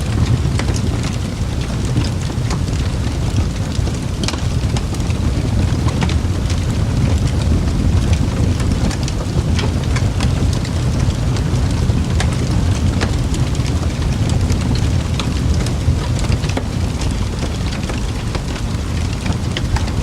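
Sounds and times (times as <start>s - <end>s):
fireplace crackling: 0.0s - 20.0s.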